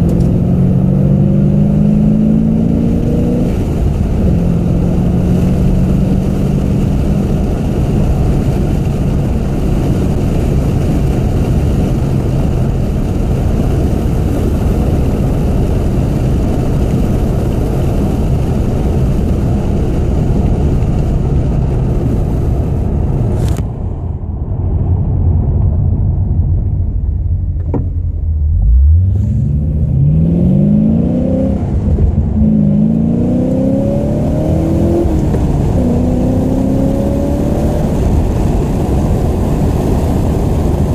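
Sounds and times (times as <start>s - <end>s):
car engine accelerating hard: 0.0s - 24.1s, 24.8s - 40.9s.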